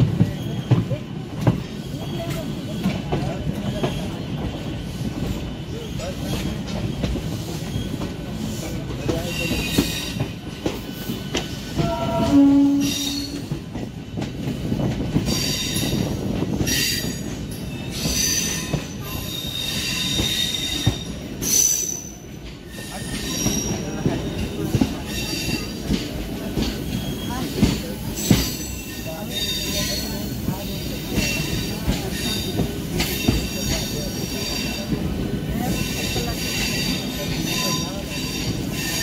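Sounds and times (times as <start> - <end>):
train rumble: 0.0 - 39.0
wheels squealing on rails: 0.0 - 39.0.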